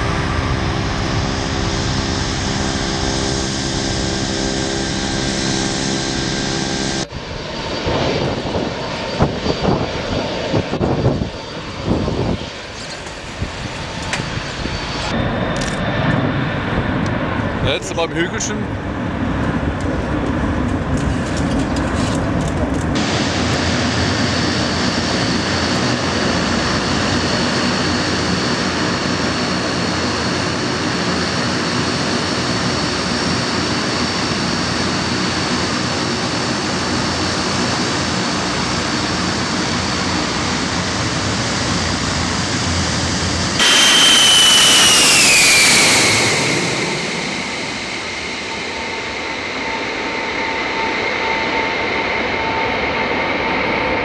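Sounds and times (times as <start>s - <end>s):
jet engines climbing: 0.0s - 54.0s
jet on approach whine: 0.0s - 54.0s
turboprop engines whining: 0.0s - 54.0s.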